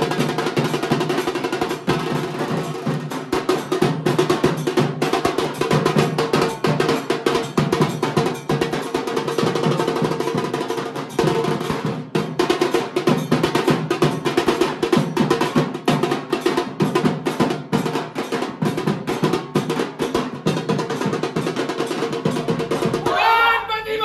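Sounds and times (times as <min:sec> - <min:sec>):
rapid drumming: 0:00.0 - 0:24.0.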